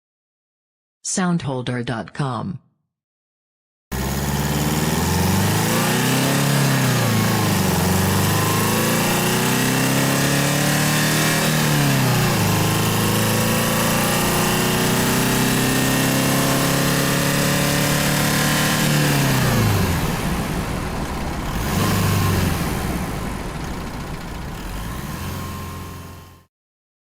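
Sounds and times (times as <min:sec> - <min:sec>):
car engines idling: 0:04.0 - 0:10.6, 0:11.3 - 0:26.4.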